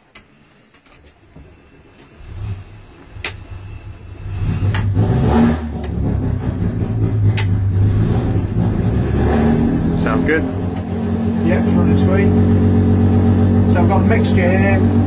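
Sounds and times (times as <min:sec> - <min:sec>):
muffled racing engine running: 0:02.0 - 0:15.0.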